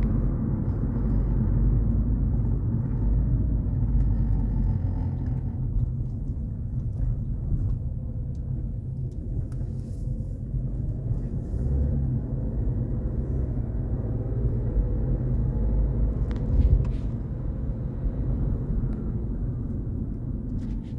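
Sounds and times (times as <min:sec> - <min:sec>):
road and tyre rumble: 0:00.0 - 0:20.9.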